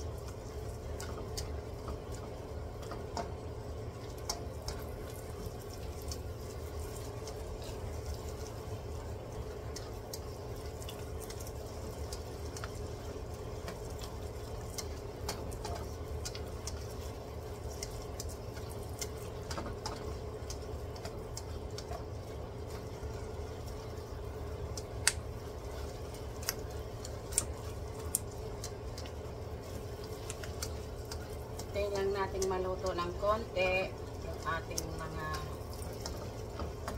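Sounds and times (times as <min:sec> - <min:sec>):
onions sizzling in a wok: 0:00.0 - 0:36.9
small crackles and clicks: 0:00.0 - 0:36.9.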